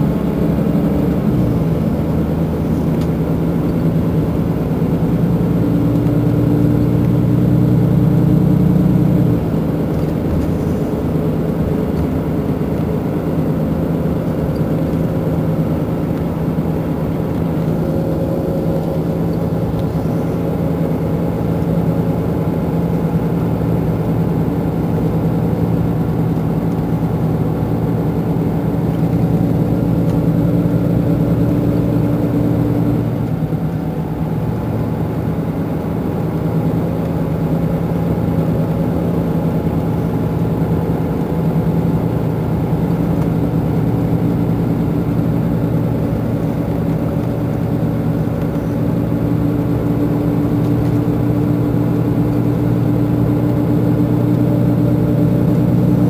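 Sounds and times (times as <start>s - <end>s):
diesel bus engine idling: 0.0s - 56.0s.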